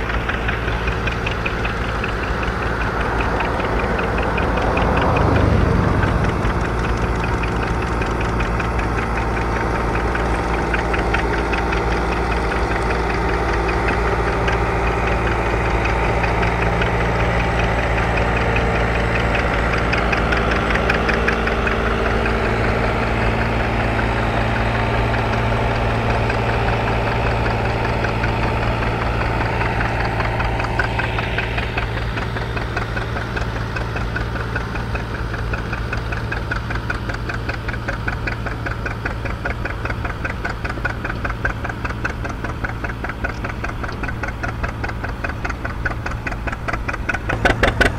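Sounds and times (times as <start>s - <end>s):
tractor engine humming: 0.0s - 47.9s.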